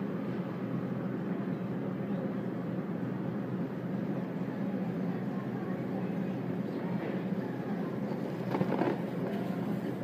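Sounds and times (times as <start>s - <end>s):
shop background hum: 0.0s - 10.0s.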